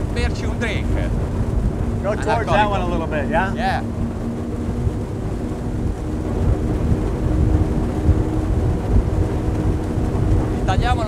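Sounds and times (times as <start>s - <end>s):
outboard engines droning: 0.0s - 11.0s
wind noise on microphone: 0.0s - 11.0s.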